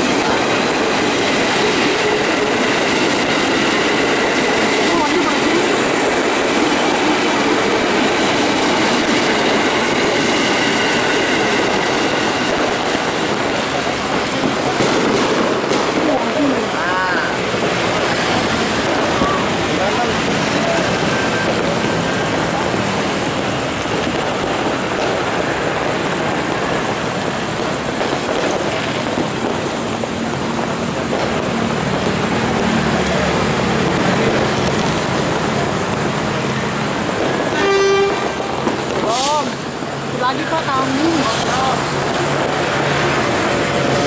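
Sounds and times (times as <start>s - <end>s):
train rolling on rails: 0.0s - 44.0s.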